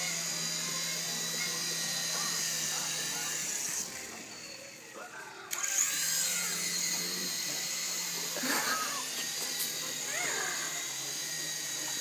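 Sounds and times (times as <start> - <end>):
toy helicopter rotor whirring: 0.0 - 12.0.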